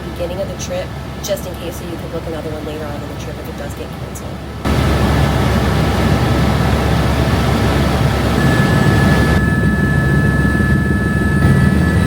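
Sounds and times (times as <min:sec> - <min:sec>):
helicopter rotor noise: 0:00.0 - 0:12.0
high turbine whine: 0:00.0 - 0:12.0.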